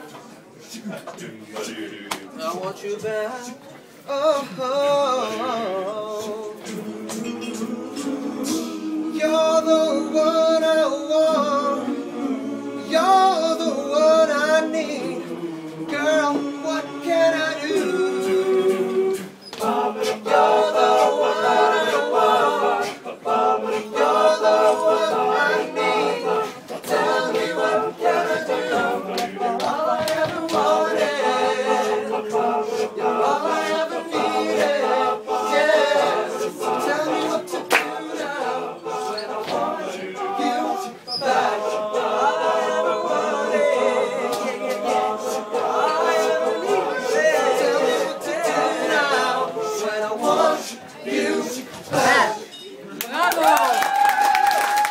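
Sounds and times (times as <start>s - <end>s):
male a cappella group singing: 0.7s - 52.6s.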